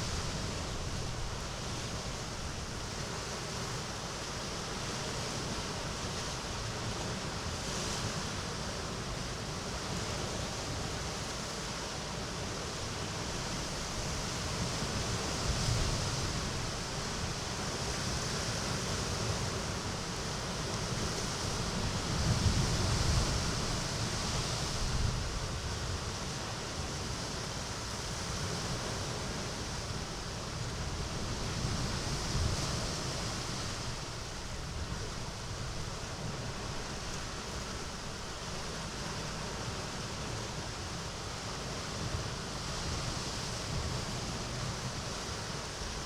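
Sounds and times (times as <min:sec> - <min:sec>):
sea waves washing ashore: 0:00.0 - 0:46.0.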